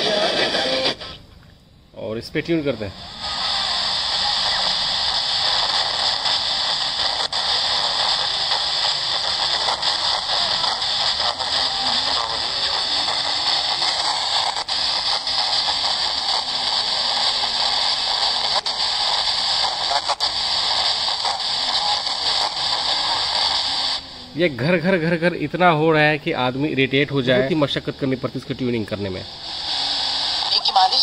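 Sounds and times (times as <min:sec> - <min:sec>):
radio static hiss: 0:00.0 - 0:01.3, 0:02.0 - 0:31.0.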